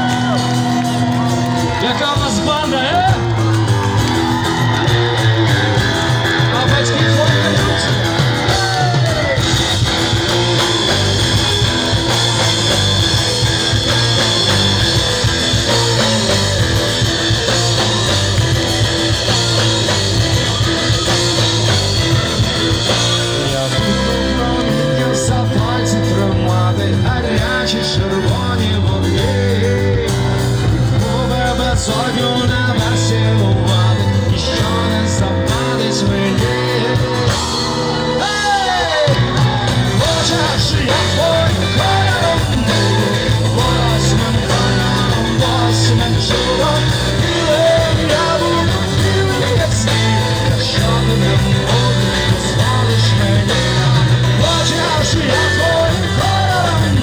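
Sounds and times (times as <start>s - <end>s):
live rock band: 0.0s - 57.0s
person singing: 4.8s - 57.0s.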